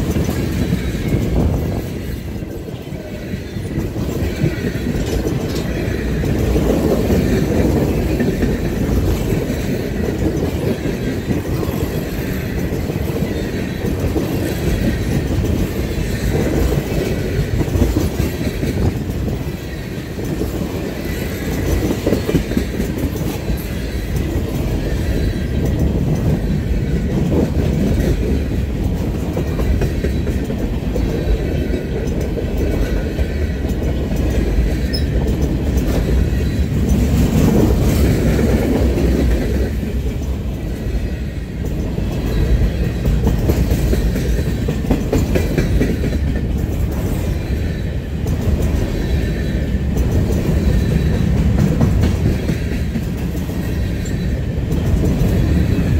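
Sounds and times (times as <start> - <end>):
clickety-clack over rail joints: 0.0 - 55.9
freight train wheels rumbling on rails: 0.0 - 55.9.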